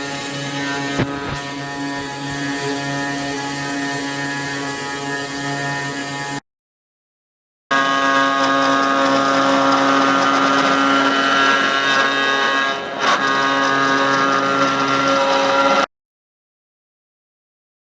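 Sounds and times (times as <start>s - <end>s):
machine mechanical whine: 0.0s - 6.4s, 7.7s - 15.9s.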